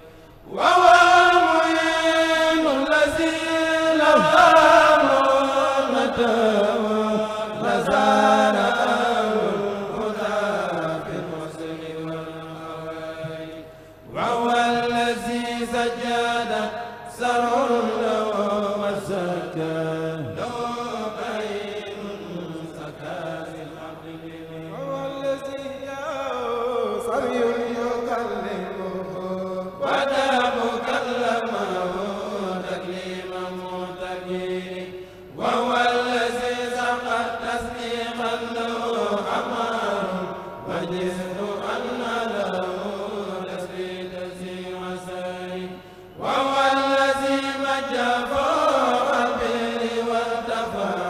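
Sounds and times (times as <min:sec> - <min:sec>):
men chanting through microphones: 0:00.0 - 0:51.0.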